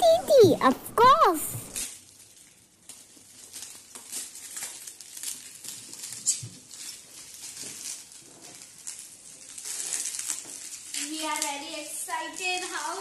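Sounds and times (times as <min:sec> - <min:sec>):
plastic wrapping crinkling: 0:01.2 - 0:13.0.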